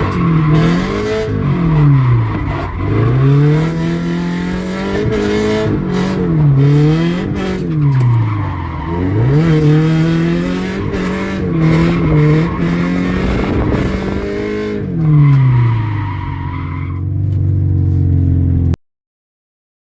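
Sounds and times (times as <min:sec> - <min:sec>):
tyres skidding: 0:00.0 - 0:18.4
car engine revving: 0:00.0 - 0:18.7.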